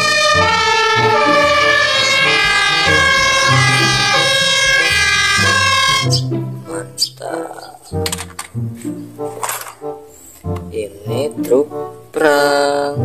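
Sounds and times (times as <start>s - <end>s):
two-tone fire engine sirens: 0.0s - 13.0s.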